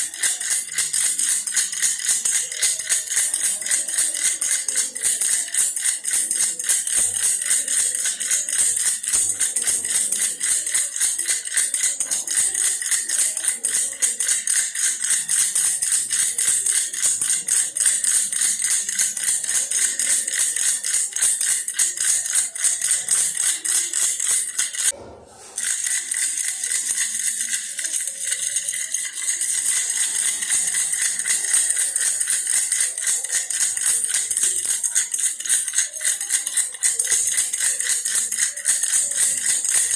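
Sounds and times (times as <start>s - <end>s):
toy rattle shaken: 0.0s - 39.9s.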